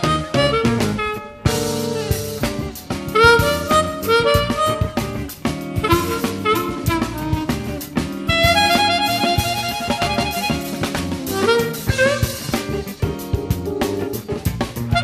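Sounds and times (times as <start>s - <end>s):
backing track with drums: 0.0s - 15.0s
harmonica melody: 0.0s - 15.0s.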